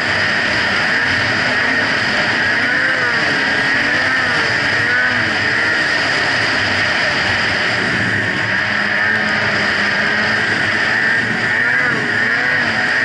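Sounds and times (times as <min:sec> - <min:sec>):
constant rushing noise: 0:00.0 - 0:13.0
snowmobile engine running: 0:00.0 - 0:13.0.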